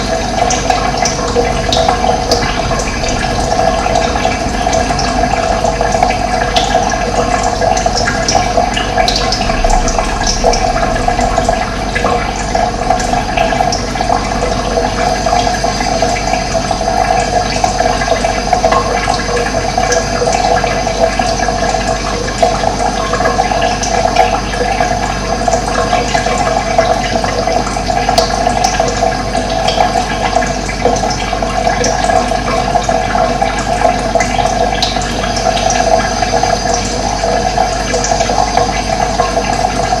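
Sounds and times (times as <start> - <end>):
running water flowing: 0.0 - 40.0.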